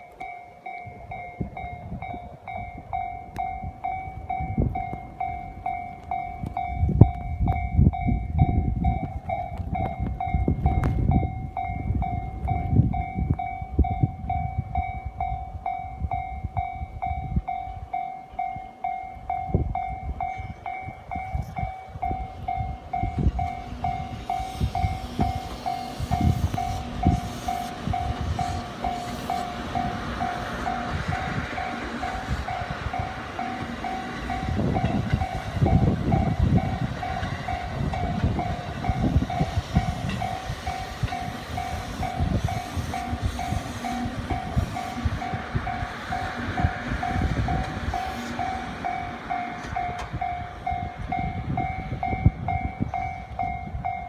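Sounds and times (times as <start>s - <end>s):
electric train passing: 0.0s - 54.0s
level-crossing warning bell: 0.0s - 54.0s
wind buffeting microphone: 0.2s - 54.0s.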